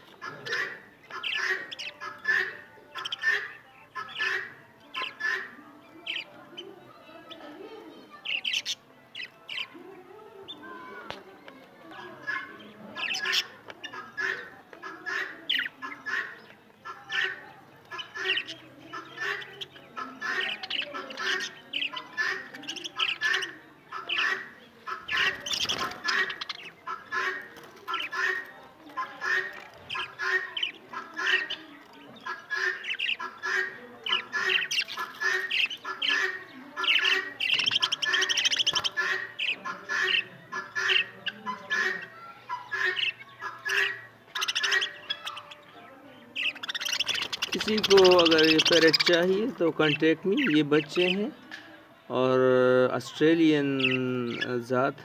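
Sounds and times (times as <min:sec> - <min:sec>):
parrots squawking: 0:00.1 - 0:07.4, 0:08.0 - 0:09.8, 0:11.9 - 0:51.6, 0:53.8 - 0:54.7.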